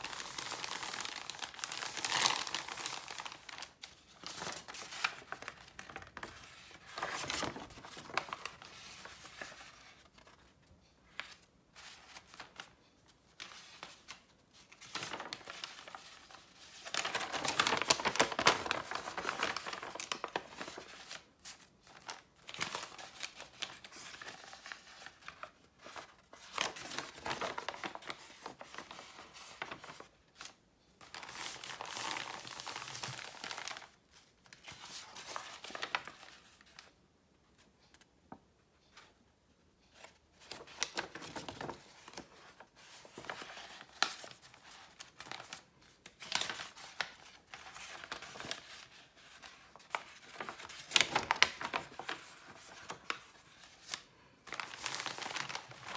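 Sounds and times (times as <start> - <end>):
paper rustling and crinkling: 0.0 - 37.0, 39.9 - 55.9.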